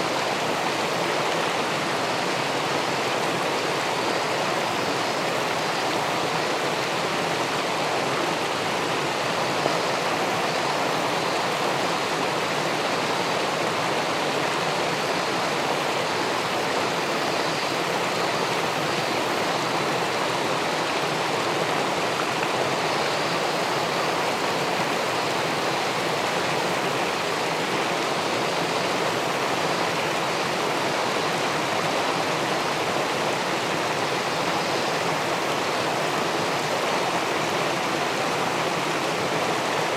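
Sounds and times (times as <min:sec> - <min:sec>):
river water pouring over a weir: 0:00.0 - 0:39.9.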